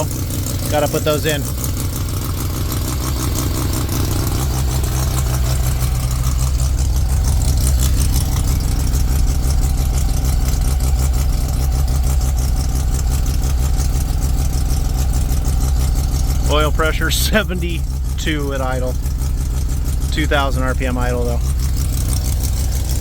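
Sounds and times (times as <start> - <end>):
exhaust leak puffing: 0.0 - 23.0
rotary engine fast idle: 0.0 - 23.0.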